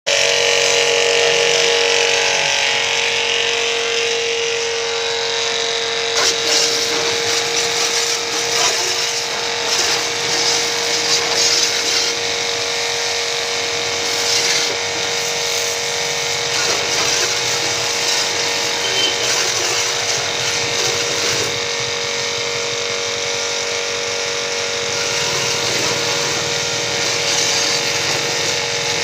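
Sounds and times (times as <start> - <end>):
pressure washer motor whine: 0.1 - 29.0.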